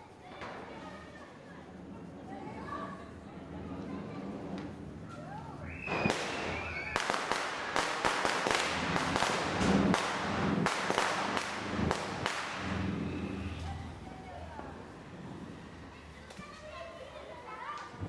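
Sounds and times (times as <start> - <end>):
firecrackers banging: 0.0 - 16.7.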